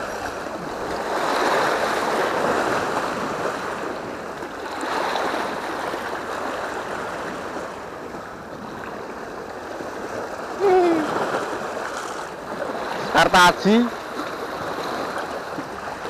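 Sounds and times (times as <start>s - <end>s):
sea waves washing over rocks: 0.0s - 16.0s.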